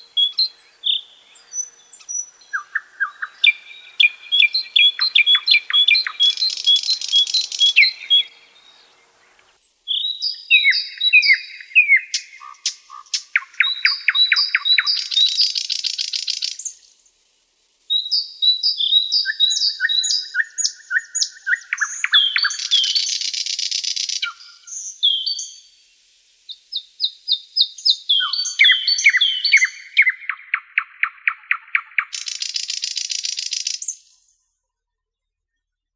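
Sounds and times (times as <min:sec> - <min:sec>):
songbirds singing: 0:00.0 - 0:34.6.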